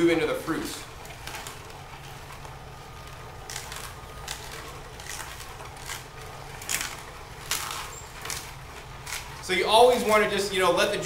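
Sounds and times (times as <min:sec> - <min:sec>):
juicer motor humming: 0:00.0 - 0:11.0
cucumber crunching in juicer: 0:00.1 - 0:10.3.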